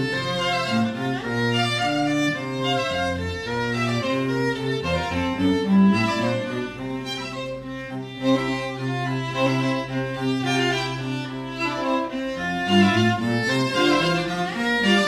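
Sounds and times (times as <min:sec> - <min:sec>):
bowed string music: 0:00.0 - 0:15.0
low cello-like line: 0:00.0 - 0:15.0.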